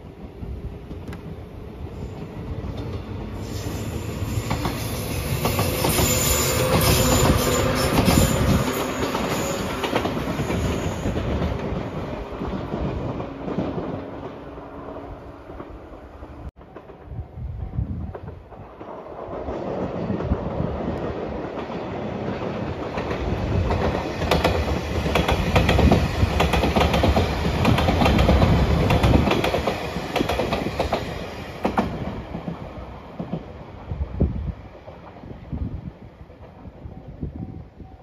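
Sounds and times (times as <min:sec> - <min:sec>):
electric train passing: 0:00.0 - 0:38.0.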